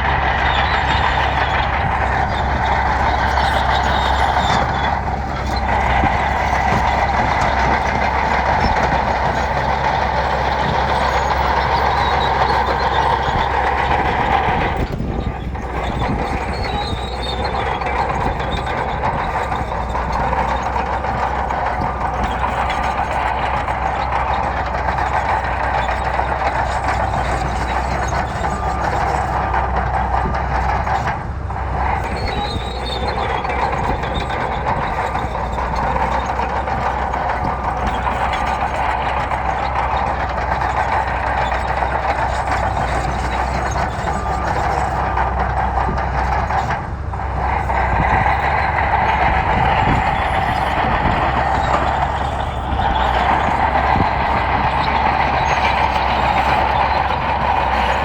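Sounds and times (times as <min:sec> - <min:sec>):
bulldozer engine and tracks: 0:00.0 - 0:58.0.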